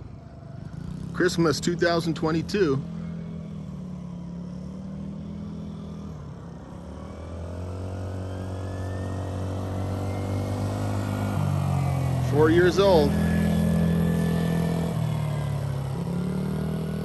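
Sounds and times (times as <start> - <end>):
small atv engine revving: 0.0 - 17.0.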